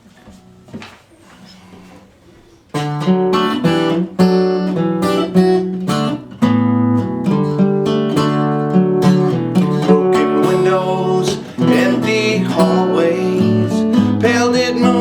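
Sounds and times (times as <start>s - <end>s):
acoustic guitar chords strummed: 2.7s - 15.0s.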